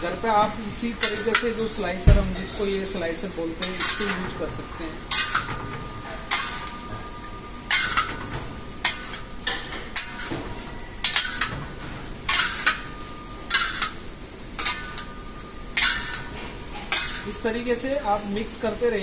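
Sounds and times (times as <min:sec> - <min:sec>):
steel spatula scraping a wok: 0:00.4 - 0:18.8.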